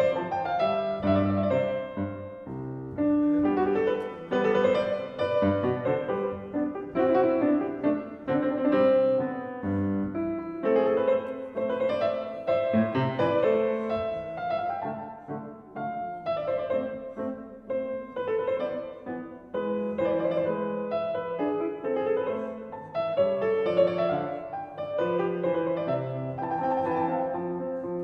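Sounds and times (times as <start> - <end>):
background piano music: 0.0 - 28.0.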